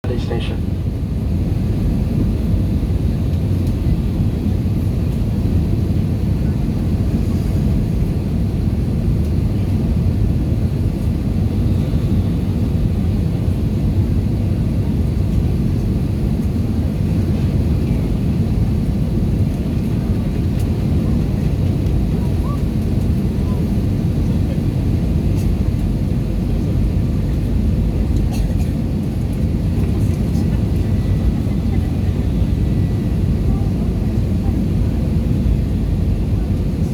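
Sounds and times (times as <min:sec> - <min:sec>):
aircraft engines rumbling: 0:00.0 - 0:36.9.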